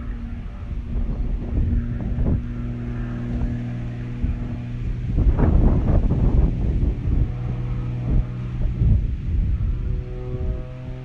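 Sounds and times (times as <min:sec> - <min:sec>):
distant propeller aircraft droning: 0:00.0 - 0:11.0
wind buffeting microphone: 0:00.0 - 0:11.0.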